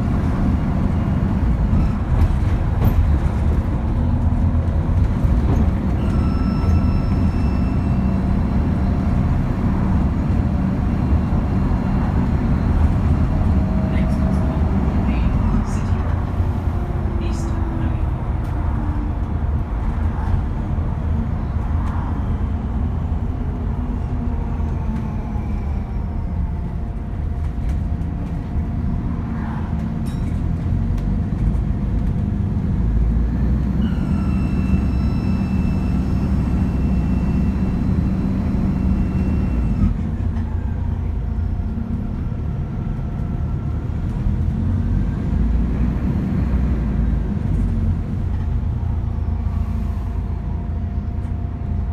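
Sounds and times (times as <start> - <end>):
bus diesel engine rumbling: 0.0 - 51.9.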